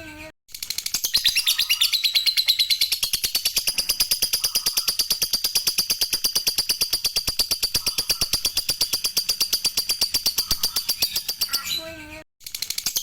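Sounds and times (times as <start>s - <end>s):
lovebird chattering trill: 1.0s - 11.9s.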